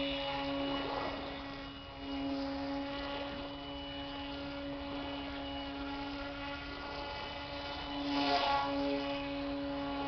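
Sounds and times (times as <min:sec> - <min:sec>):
model airboat motor droning: 0:00.0 - 0:10.0.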